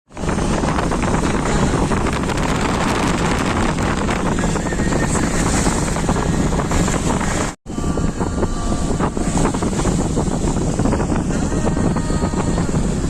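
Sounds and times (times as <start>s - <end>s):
loud rumbling rushing noise: 0.1s - 13.0s.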